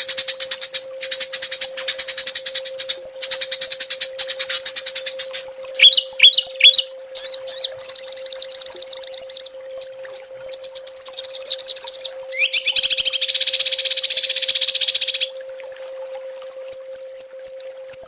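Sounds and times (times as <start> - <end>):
songbirds trilling: 0.0 - 15.3
faint steady hum: 0.0 - 18.0.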